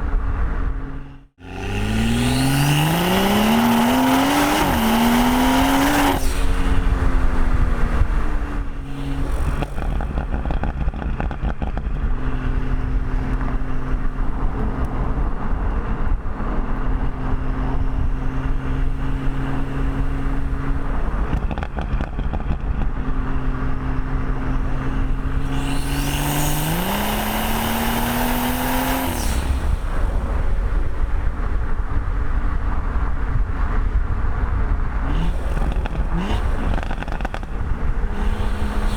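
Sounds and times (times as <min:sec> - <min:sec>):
car engine revving and droning: 0:00.0 - 0:38.9.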